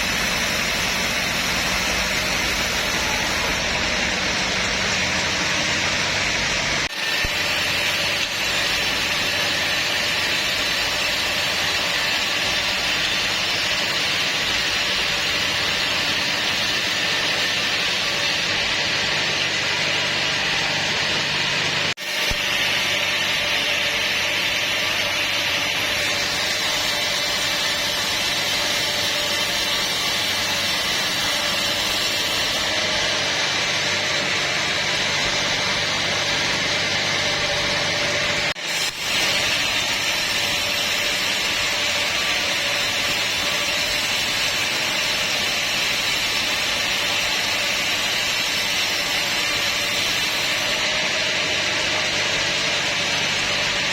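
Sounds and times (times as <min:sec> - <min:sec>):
sawmill saw cutting timber: 0:00.0 - 0:53.9.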